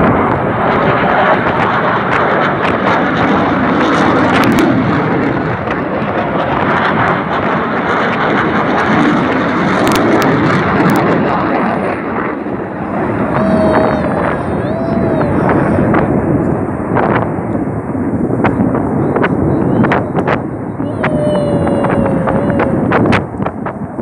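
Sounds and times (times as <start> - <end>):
jet engine flying overhead: 0.0 - 24.0.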